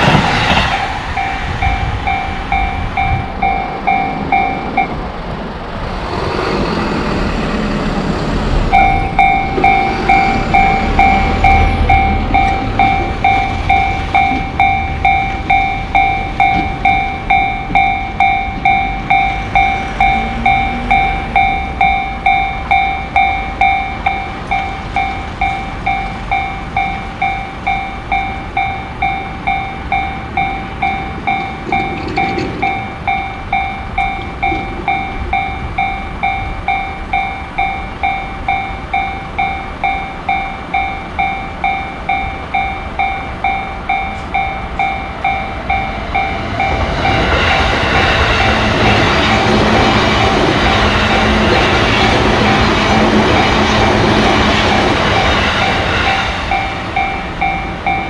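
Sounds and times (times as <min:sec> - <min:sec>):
railway crossing warning bell: 0:00.0 - 0:06.0, 0:07.1 - 0:58.0
passing train: 0:00.0 - 0:58.0.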